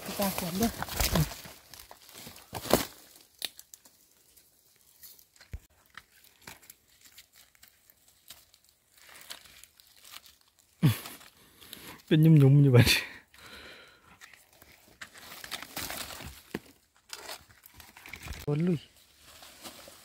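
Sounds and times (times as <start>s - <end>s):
dry leaves and twigs crackling: 0.0s - 20.0s.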